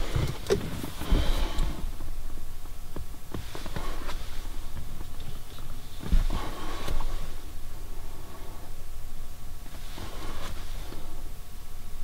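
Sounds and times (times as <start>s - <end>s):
soft rustling of hands: 0.0s - 8.9s, 9.6s - 11.4s.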